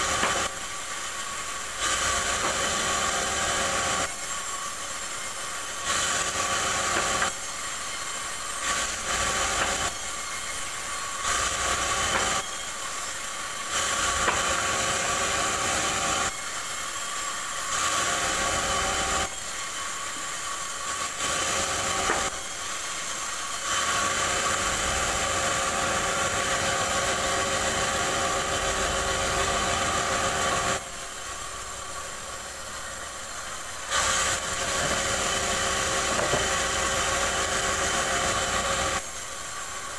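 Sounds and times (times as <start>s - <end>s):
bandsaw blade cutting log: 0.0s - 39.9s
bandsaw mill running: 0.0s - 39.9s.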